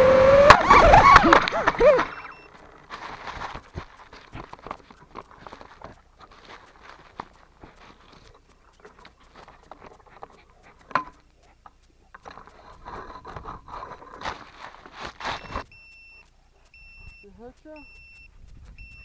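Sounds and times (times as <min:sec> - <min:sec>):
grass rustling against camera: 0:00.2 - 0:19.0
dog footsteps: 0:00.8 - 0:19.0.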